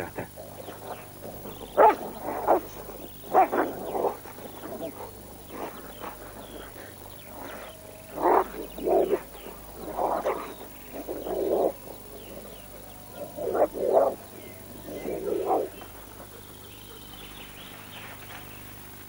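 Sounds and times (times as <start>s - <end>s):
dogs snarling and growling: 0.0s - 17.7s.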